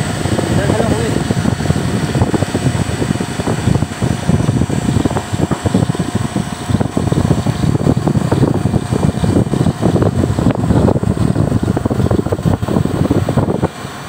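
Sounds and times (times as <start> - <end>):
faint mechanical hum: 0.0 - 14.0
wind buffeting microphone: 0.0 - 14.0.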